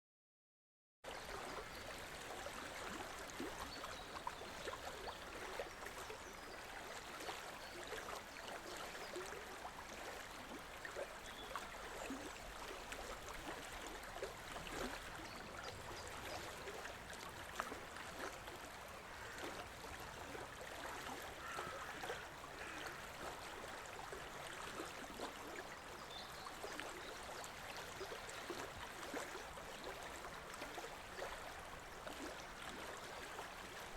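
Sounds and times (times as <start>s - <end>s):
river water flowing: 1.1s - 33.9s
small splashes and trickles: 1.1s - 33.9s.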